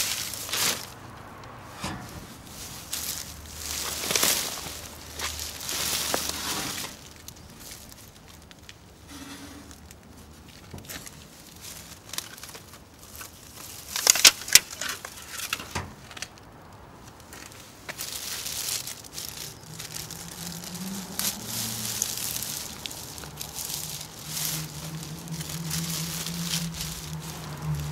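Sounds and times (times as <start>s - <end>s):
plastic bags rustling and crinkling: 0.0s - 27.9s.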